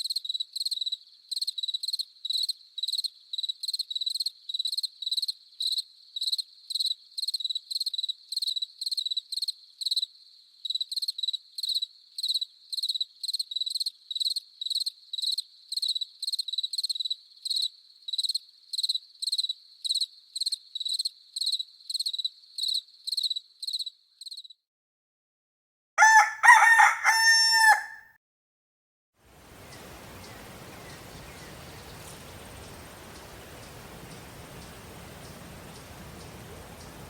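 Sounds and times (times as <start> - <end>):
cricket chirping close up: 0.0 - 24.6, 29.5 - 37.0
faint cricket chorus: 0.0 - 24.6, 29.3 - 37.0.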